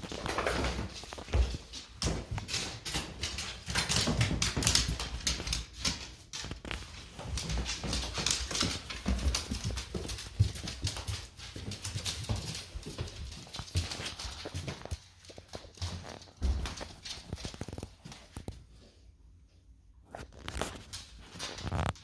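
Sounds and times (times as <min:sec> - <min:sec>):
dog nails clicking on hard floor: 0:00.0 - 0:18.7, 0:20.1 - 0:22.0.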